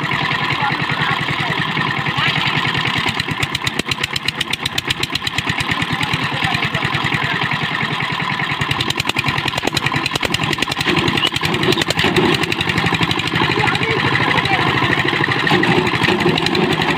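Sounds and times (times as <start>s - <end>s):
diesel engine chugging: 0.0s - 16.9s.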